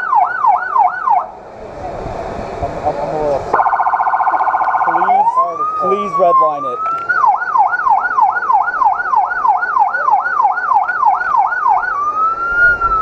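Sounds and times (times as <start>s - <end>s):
electronic emergency siren: 0.0s - 1.3s, 3.5s - 13.0s.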